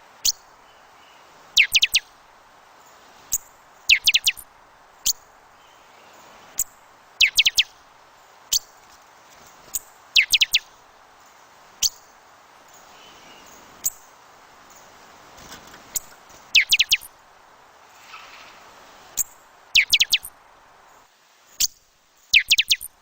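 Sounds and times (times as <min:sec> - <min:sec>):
small birds chirping: 0:00.0 - 0:23.0
wind hiss: 0:00.0 - 0:23.0.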